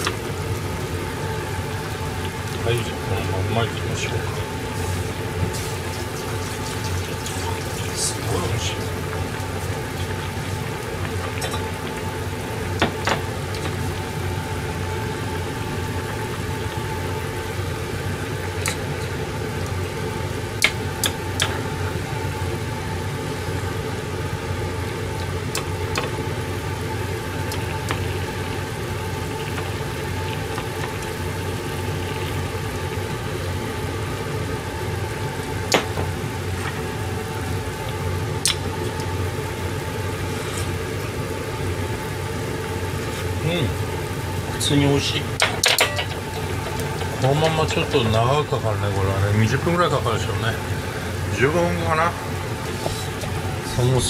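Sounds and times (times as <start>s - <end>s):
vegetables simmering in frying pan: 0.0s - 54.0s.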